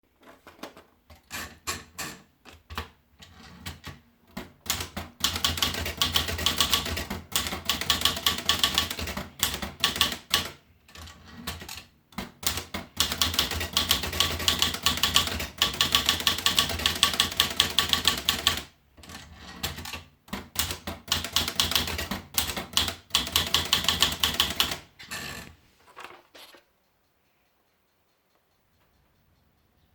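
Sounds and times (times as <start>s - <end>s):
manual typewriter keystrokes: 1.1s - 25.4s.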